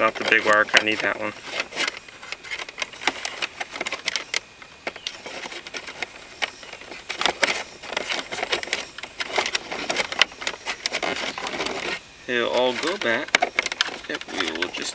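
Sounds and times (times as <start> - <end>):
wires scraping against plastic: 0.0 - 14.9.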